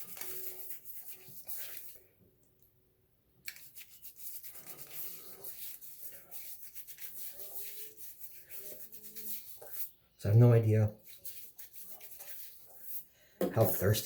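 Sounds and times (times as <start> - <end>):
hands rubbing stubbly face: 0.0 - 2.0, 3.5 - 9.9, 11.0 - 14.0.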